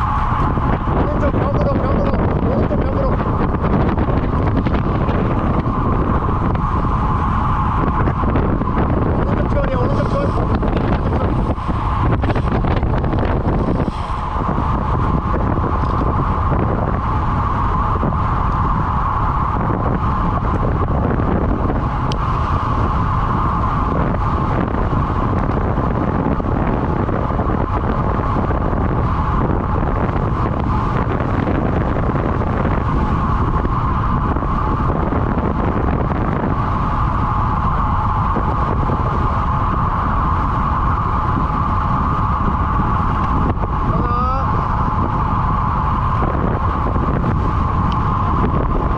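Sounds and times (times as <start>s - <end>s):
bike hum: 0.0s - 48.9s
wind rumble on microphone: 0.0s - 48.9s.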